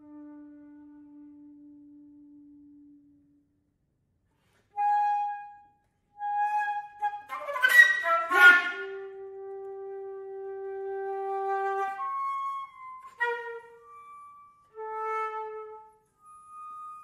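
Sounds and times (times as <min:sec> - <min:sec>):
flute playing: 0:00.0 - 0:03.0, 0:04.7 - 0:17.0.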